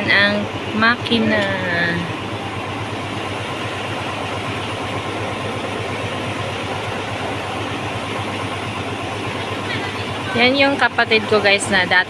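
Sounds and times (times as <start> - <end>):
road roller engine idling: 0.0 - 12.0.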